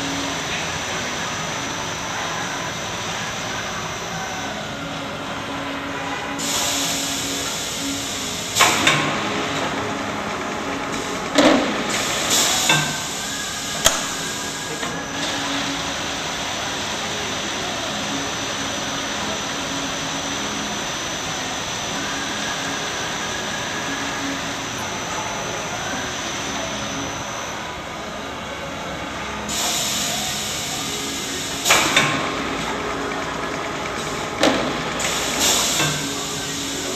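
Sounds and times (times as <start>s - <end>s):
liquid filling machine running: 0.0s - 36.9s.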